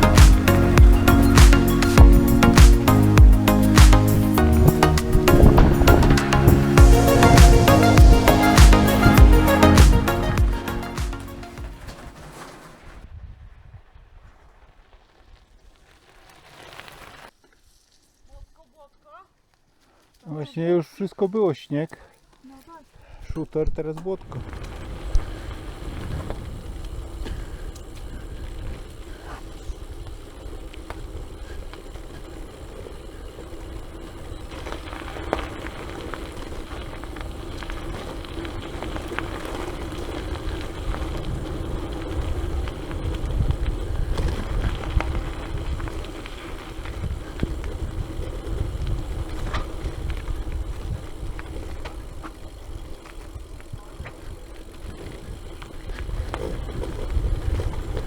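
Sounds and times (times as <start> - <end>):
wind rumbling on microphone: 0.0 - 10.9, 12.8 - 15.5, 24.2 - 58.0
bike tyres humming on gravel: 0.0 - 58.0.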